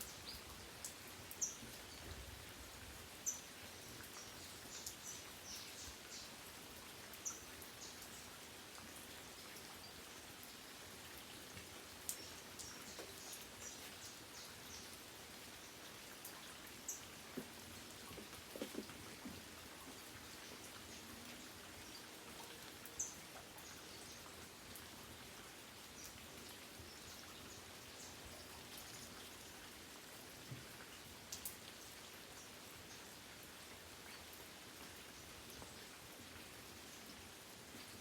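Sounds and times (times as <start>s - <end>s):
light rain falling: 0.0s - 38.0s.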